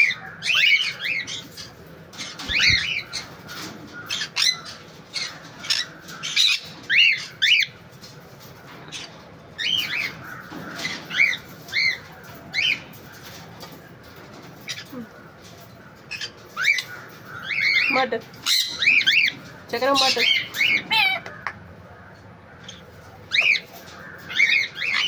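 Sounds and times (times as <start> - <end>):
parrots squawking: 0.0 - 25.0.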